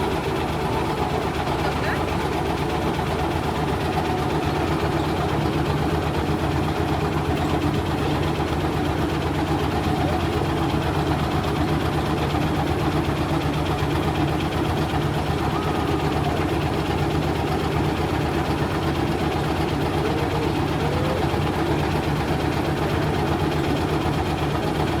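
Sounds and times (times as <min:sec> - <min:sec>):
motor humming steadily: 0:00.0 - 0:25.0.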